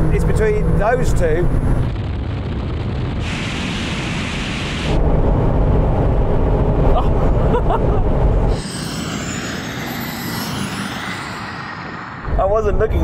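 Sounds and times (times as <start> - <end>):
engine and road rumble: 0.0 - 13.0
rushing noise: 1.7 - 13.0.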